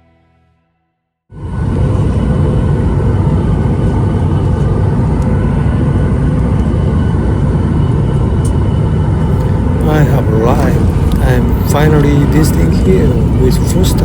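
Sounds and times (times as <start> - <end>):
airliner engines and airflow: 1.3 - 14.0
faint steady hum: 1.4 - 14.0.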